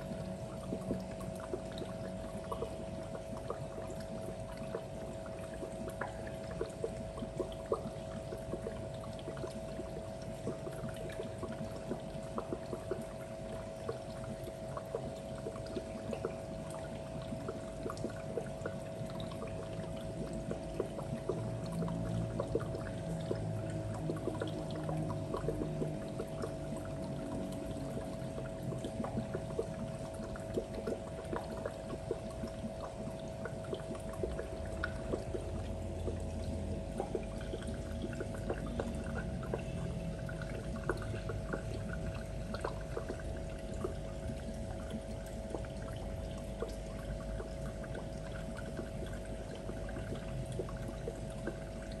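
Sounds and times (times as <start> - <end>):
aquarium water trickling: 0.0 - 52.0
bubbles ticking: 0.0 - 52.0
steady hum: 0.0 - 52.0.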